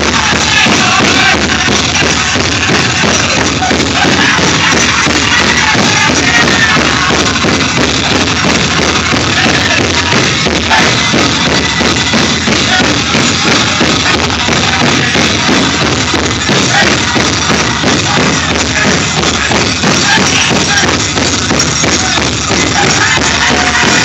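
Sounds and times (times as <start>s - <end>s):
big drum beating: 0.0s - 24.0s
jingling of dance regalia: 0.0s - 24.0s
people singing: 0.0s - 24.0s.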